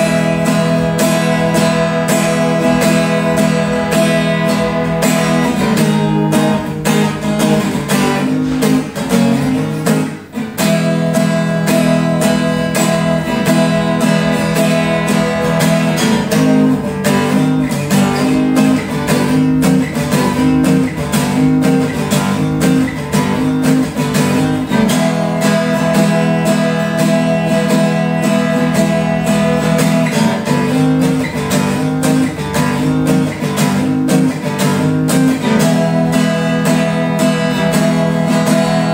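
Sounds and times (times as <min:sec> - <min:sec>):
acoustic guitar fingerpicked and strummed: 0:00.0 - 0:38.9.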